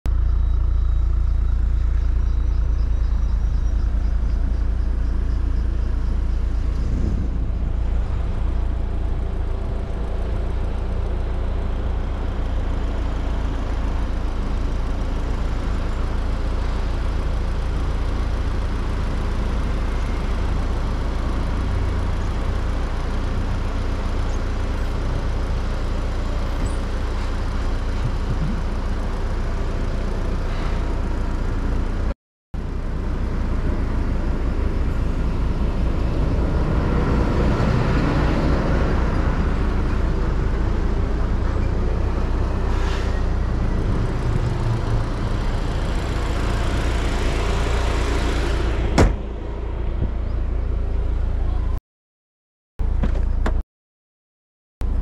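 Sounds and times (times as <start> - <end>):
car engine and road rumble: 0.1 - 51.8, 52.8 - 53.6.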